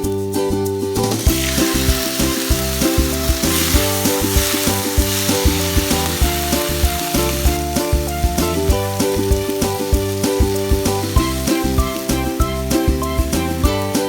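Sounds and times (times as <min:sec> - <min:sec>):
background music: 0:00.0 - 0:14.0
food sizzling in hot oil: 0:01.0 - 0:14.0.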